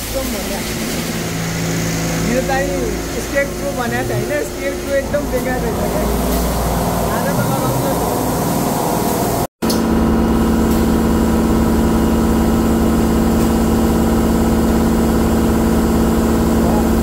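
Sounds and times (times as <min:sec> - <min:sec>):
industrial machinery hum: 0:00.0 - 0:17.0.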